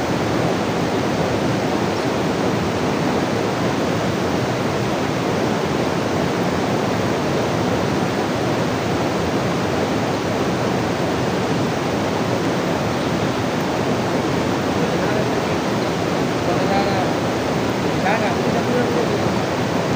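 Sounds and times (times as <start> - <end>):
water rushing: 0.0 - 19.9.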